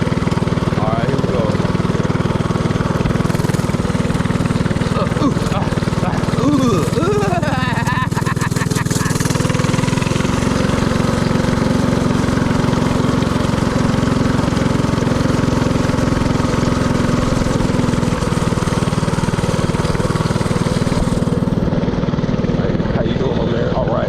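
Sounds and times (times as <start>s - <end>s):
mini-bike engine running: 0.0s - 24.0s.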